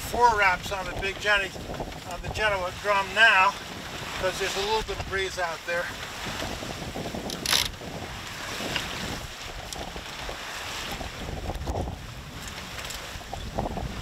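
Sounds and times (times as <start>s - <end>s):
water washing past hull: 0.0s - 14.0s
wind buffeting microphone: 0.0s - 14.0s.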